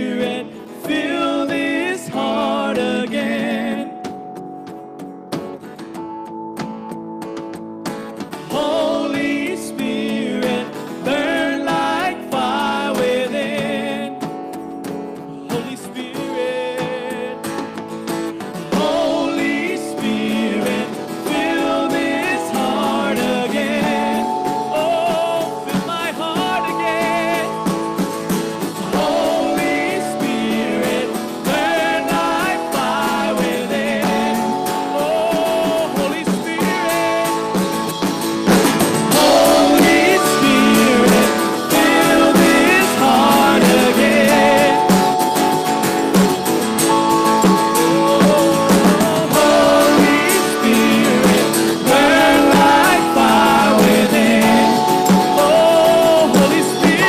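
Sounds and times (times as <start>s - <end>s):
voices singing: 0.0s - 4.2s, 8.4s - 14.5s, 18.6s - 57.0s
acoustic guitar: 0.0s - 57.0s
worship band playing slow song: 0.0s - 57.0s.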